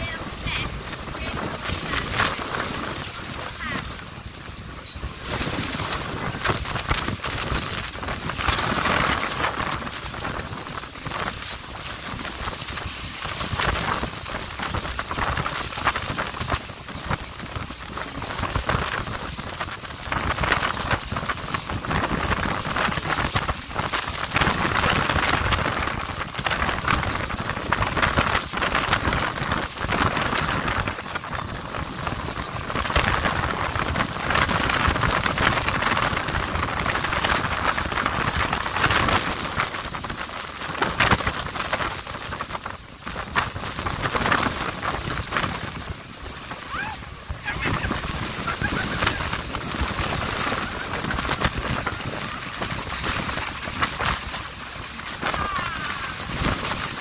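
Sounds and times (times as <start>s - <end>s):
waterfall roaring: 0.0s - 57.0s
wind buffeting microphone: 0.0s - 57.0s.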